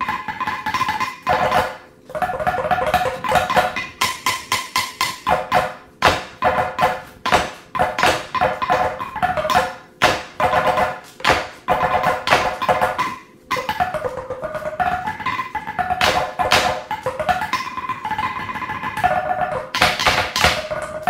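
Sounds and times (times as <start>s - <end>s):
sticks striking metal woks: 0.0s - 21.0s.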